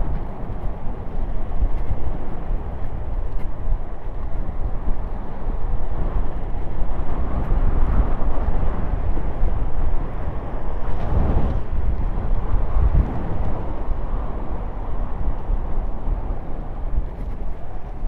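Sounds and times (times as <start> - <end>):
tyres rolling on asphalt: 0.0 - 18.0
wind rushing over microphone: 0.0 - 18.0.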